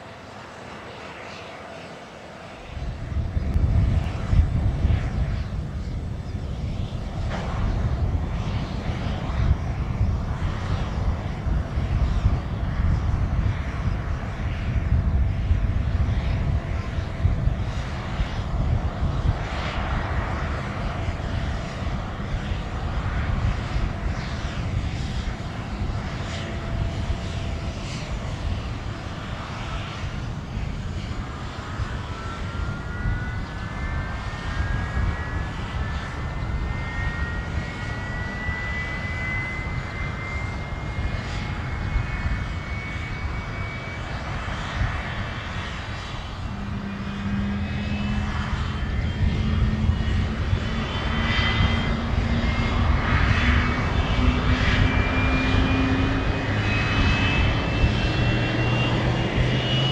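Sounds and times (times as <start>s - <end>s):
jet engines rumbling: 0.0s - 59.9s
jet whine rising in pitch: 0.0s - 59.9s.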